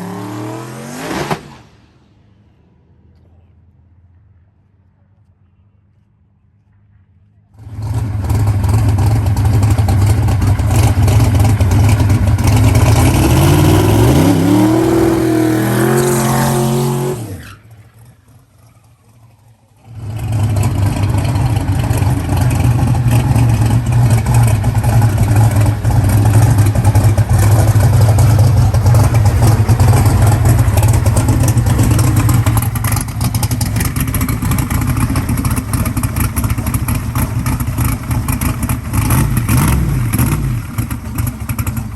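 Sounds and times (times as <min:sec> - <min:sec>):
drag racing engine at full throttle: 0:00.0 - 0:03.4, 0:07.6 - 0:41.9.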